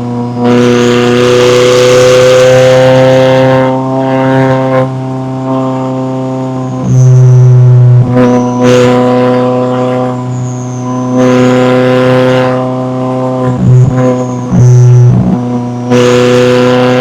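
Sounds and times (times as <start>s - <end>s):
sports car engine and exhaust: 0.0s - 17.0s.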